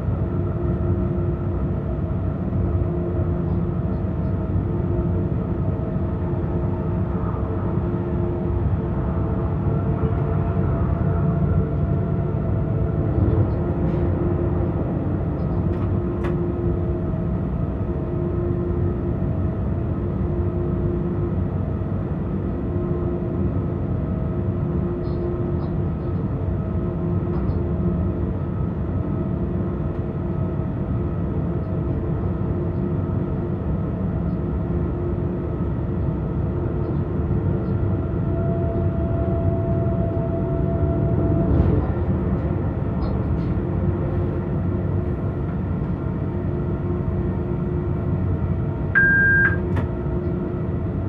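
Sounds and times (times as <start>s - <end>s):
steady hums: 0.0s - 51.0s.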